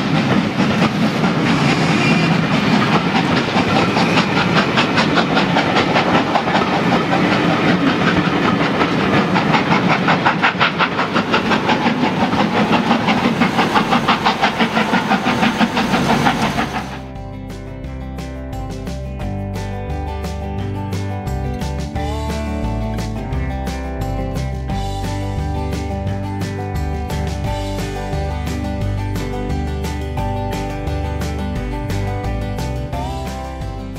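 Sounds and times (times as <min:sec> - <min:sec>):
train wheels clicking on rails: 0:00.0 - 0:33.9.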